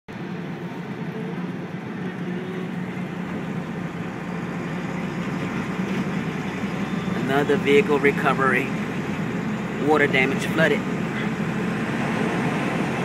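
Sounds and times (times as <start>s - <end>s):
road noise: 0.1s - 13.0s
truck engine drone: 0.1s - 13.0s.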